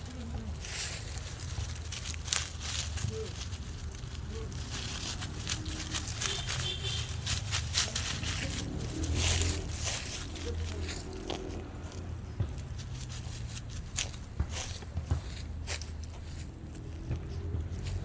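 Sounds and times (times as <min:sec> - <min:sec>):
rustling and crinkling clicks: 0:00.0 - 0:18.0
steady low rumble: 0:00.0 - 0:18.0.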